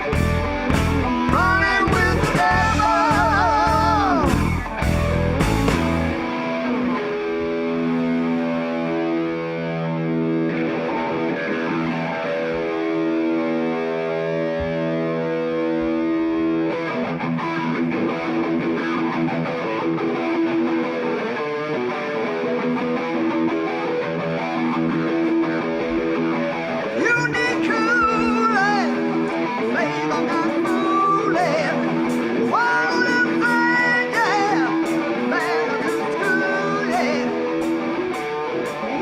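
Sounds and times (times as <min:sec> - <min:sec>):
distorted electric guitar: 0:00.0 - 0:39.0.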